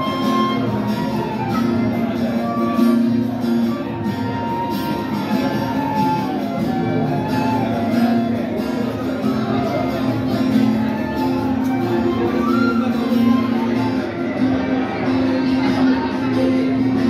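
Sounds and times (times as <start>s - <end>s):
flute melody: 0.0s - 16.6s
guitar accompaniment: 0.0s - 17.0s.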